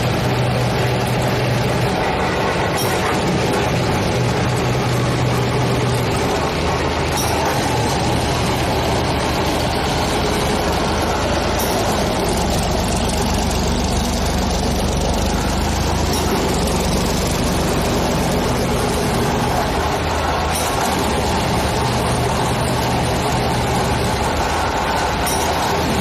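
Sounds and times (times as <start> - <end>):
heavy machine engine running: 0.0 - 26.0.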